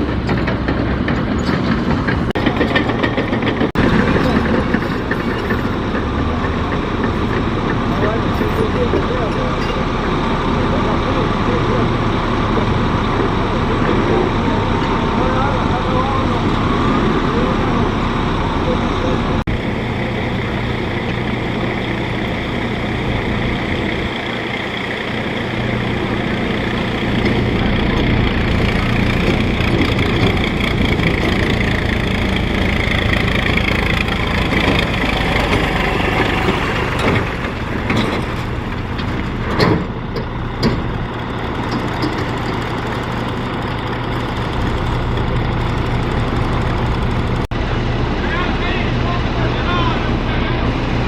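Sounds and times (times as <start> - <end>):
tractor engine under load: 0.0 - 51.0.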